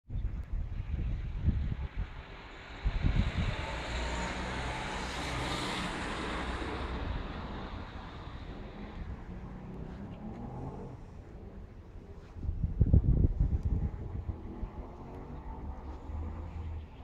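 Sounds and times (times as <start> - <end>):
wind buffeting microphone: 0.1 - 17.0
vehicle passing: 1.5 - 11.8, 13.5 - 17.0.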